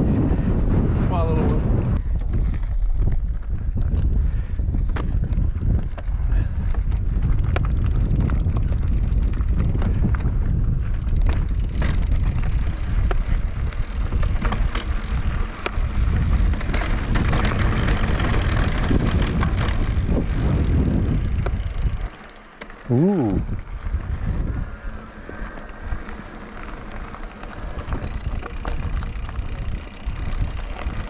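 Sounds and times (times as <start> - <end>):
wind rumble on microphone: 0.0 - 22.2, 22.8 - 31.0
bike rattling over rough trail: 0.0 - 31.0.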